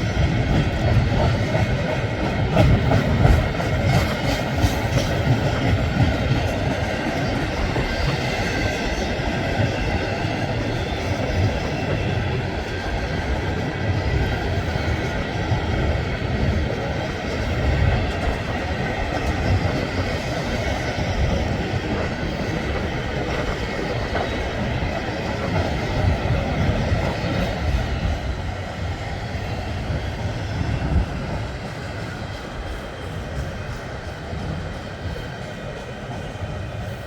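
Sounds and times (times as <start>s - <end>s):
freight train rumble: 0.0s - 37.0s.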